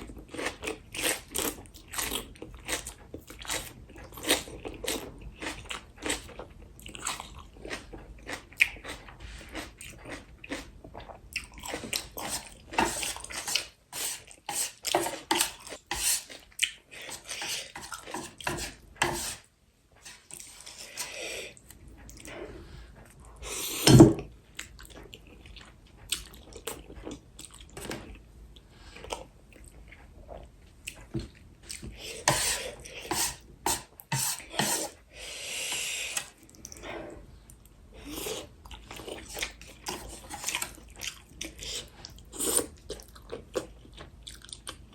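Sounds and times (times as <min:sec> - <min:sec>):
person chewing and crunching: 0:00.0 - 0:19.4, 0:23.0 - 0:28.3, 0:28.9 - 0:44.9.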